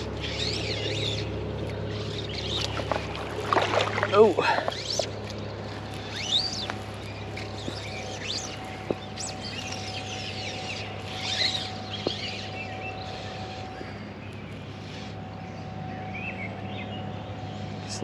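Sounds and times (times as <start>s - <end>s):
birds chirping: 0.0s - 18.0s
low background hum: 0.0s - 18.0s.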